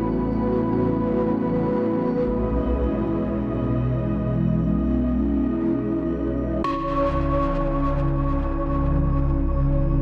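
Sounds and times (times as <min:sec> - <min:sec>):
ambient synthesizer music: 0:00.0 - 0:10.0.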